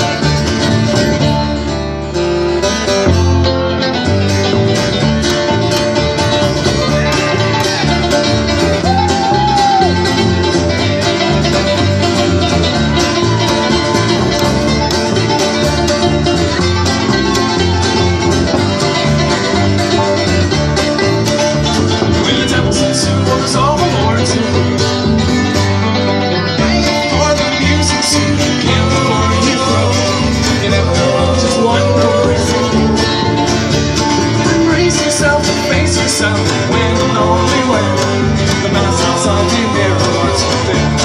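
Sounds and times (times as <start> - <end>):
string band playing: 0.0 - 41.0.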